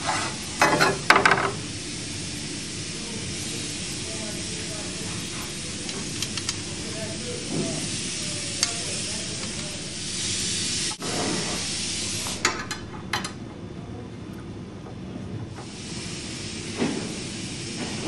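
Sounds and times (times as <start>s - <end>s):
steady background hiss: 0.0s - 14.0s, 15.6s - 18.0s.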